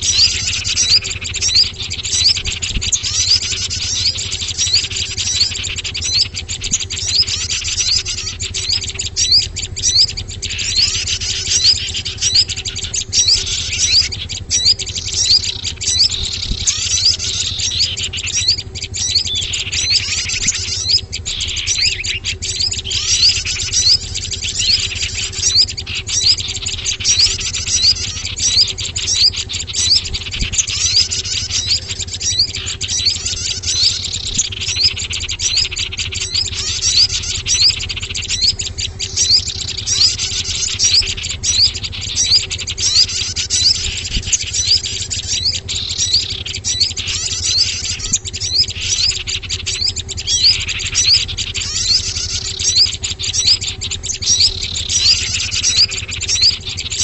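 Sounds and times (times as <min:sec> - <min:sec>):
songbirds chirping: 0:00.0 - 0:57.0
steady low hum: 0:00.0 - 0:57.0.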